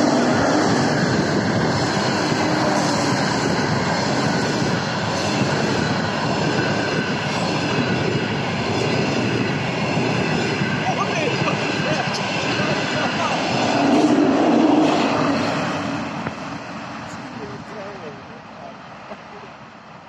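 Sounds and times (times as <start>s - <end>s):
diesel locomotive passing: 0.0s - 20.0s
wheels rushing on rails: 0.0s - 20.0s.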